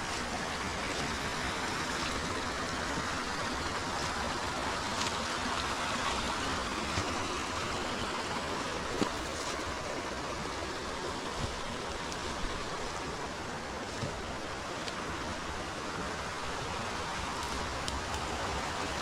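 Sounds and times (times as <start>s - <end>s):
river water flowing over stones: 0.0s - 19.0s.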